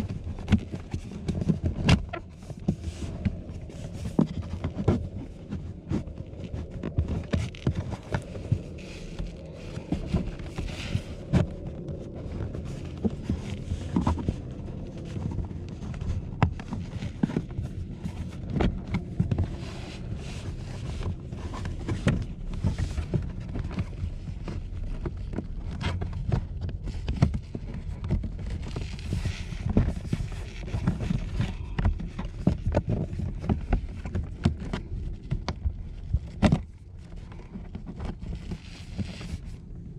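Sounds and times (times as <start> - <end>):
clothing and hands rustling: 0.0 - 39.9
low rumble: 0.0 - 39.9
plastic panel clicks and scrapes: 0.0 - 39.9.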